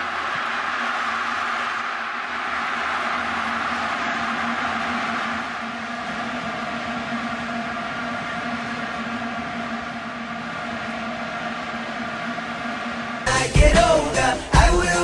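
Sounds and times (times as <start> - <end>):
crowd noise: 0.0 - 15.0.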